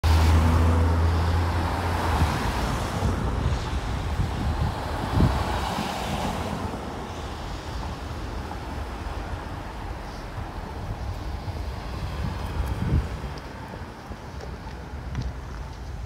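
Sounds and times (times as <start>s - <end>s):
street traffic noise: 0.0s - 16.0s
wind buffeting microphone: 1.4s - 16.0s.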